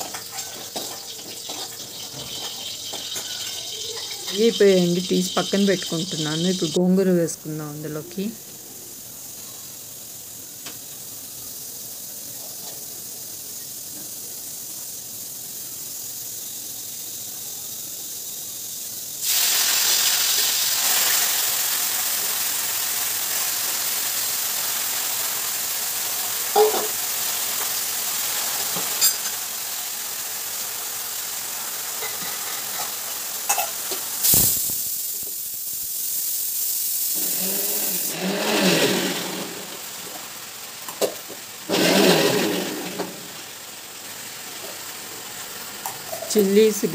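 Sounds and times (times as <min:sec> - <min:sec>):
leaves sizzling in hot oil: 0:00.0 - 0:46.9.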